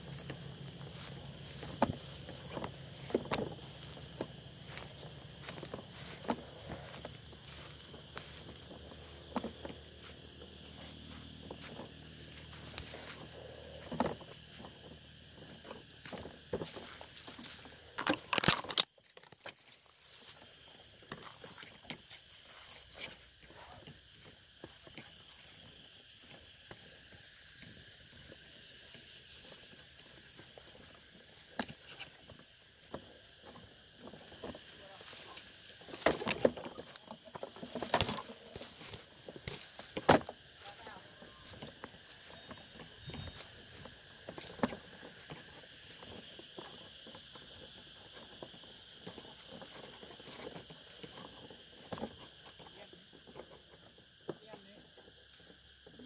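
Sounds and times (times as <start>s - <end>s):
dry leaves and twigs rustling: 0.0s - 56.0s
insects droning: 0.0s - 56.0s.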